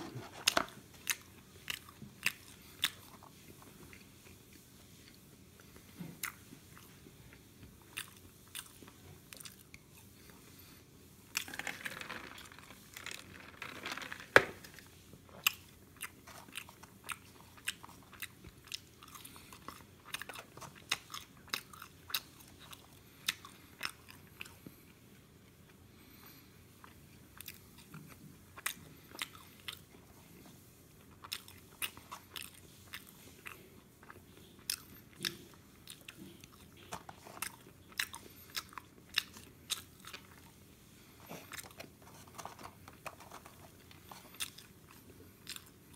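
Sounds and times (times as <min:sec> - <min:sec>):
person chewing fries: 0:00.0 - 0:45.9.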